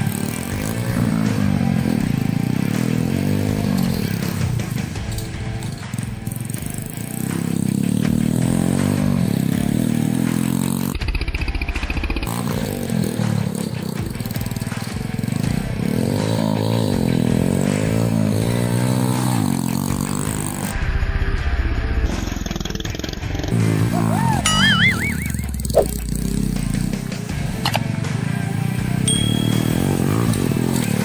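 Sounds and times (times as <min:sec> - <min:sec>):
motorcycle engine revving: 0:00.0 - 0:20.8, 0:22.3 - 0:31.0.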